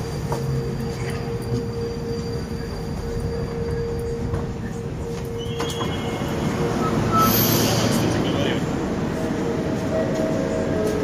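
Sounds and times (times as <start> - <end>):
train equipment rumble and hum: 0.0 - 11.0.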